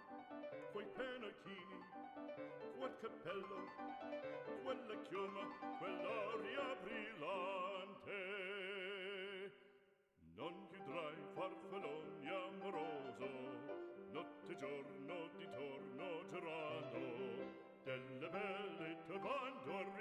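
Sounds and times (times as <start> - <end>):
operatic voice singing: 0.6 - 2.0, 2.6 - 3.8, 4.4 - 9.6, 10.3 - 20.0.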